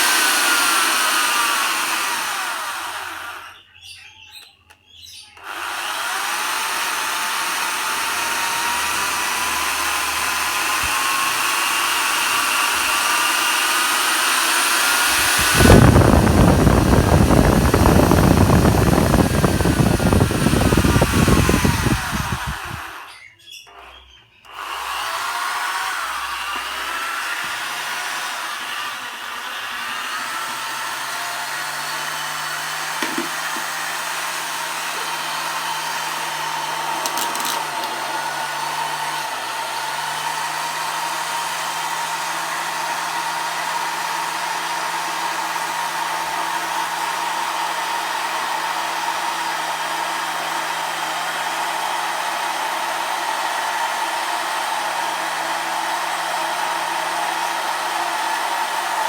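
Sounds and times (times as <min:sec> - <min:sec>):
power tool motor whining: 0:00.0 - 0:59.0.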